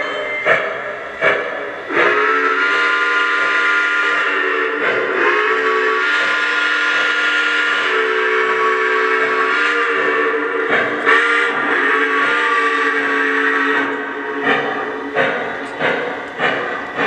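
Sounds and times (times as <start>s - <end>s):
chime steam whistle: 0.0s - 15.1s.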